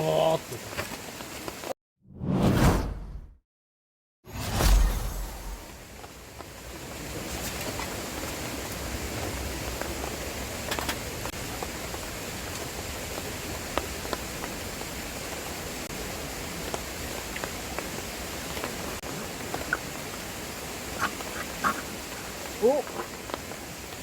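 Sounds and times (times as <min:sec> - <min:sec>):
fire crackles: 0:00.0 - 0:01.7, 0:04.4 - 0:24.0.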